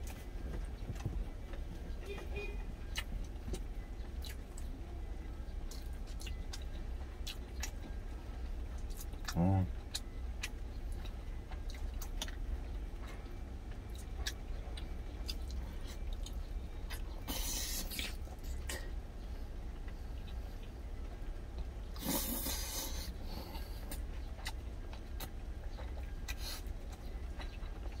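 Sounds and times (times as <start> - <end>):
person chewing and lip-smacking: 0.0 - 4.9, 5.5 - 8.0, 8.7 - 18.9, 21.6 - 28.0
steady low hum: 0.0 - 28.0.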